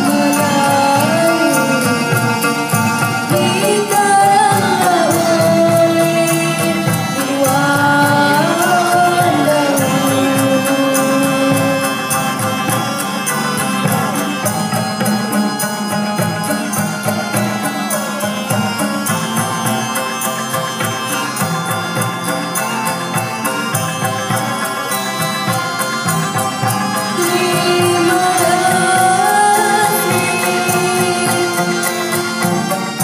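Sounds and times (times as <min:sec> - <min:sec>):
sliding ornamented melody: 0:00.0 - 0:33.0
steady percussion rhythm: 0:00.0 - 0:33.0.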